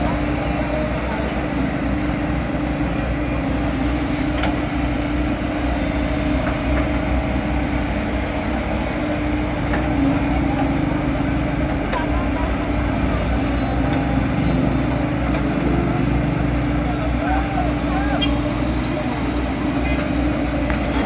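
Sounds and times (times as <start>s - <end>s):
excavator diesel engines running: 0.0s - 21.0s.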